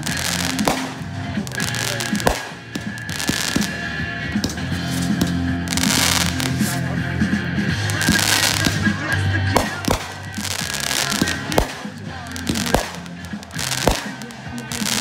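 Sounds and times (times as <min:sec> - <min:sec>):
fireworks bangs: 0:00.0 - 0:15.0
fireworks hissing and crackling: 0:00.0 - 0:15.0
music: 0:00.0 - 0:15.0.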